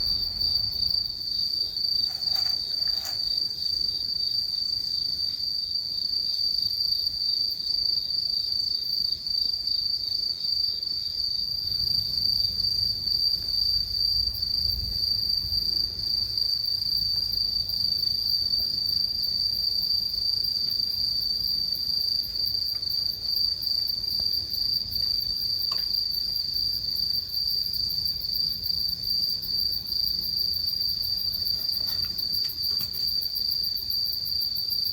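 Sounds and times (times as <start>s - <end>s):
crickets trilling: 0.0s - 34.9s
high pulsing insect chirp: 0.0s - 34.9s.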